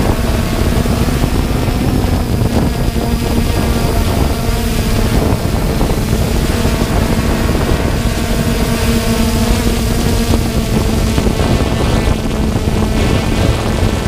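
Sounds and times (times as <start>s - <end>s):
drone propellers humming: 0.0s - 14.0s
wind noise on microphone: 0.0s - 14.0s.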